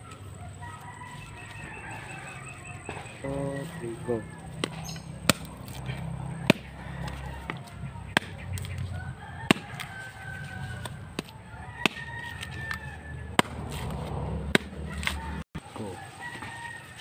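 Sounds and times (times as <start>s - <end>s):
rooster crowing: 0.0s - 17.0s.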